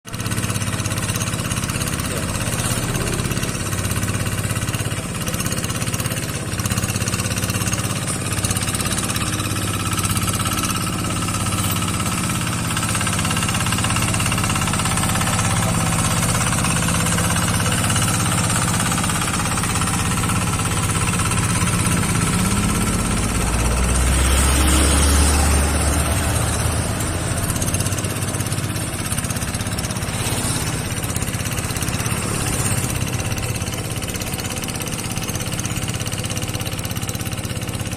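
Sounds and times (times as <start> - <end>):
tractor engine chugging: 0.1 - 37.9.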